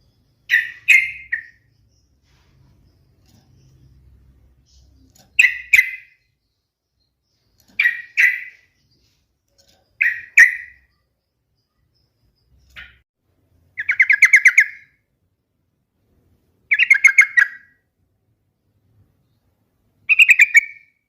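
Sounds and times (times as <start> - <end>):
bird singing: 0.0 - 13.0, 13.6 - 15.2, 16.6 - 21.0
rapidly repeated bird chirps: 0.0 - 15.4, 16.0 - 21.0.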